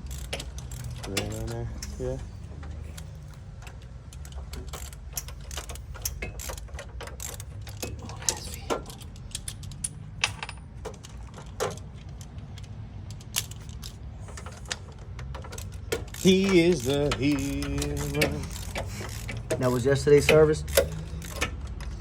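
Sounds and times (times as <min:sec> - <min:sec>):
wrench clinking on metal parts: 0:00.0 - 0:22.0.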